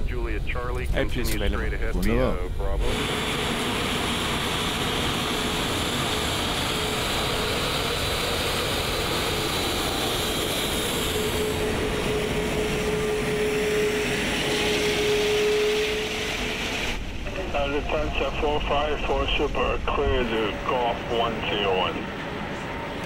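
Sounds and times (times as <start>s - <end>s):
jet engines taxiing: 0.0s - 23.0s.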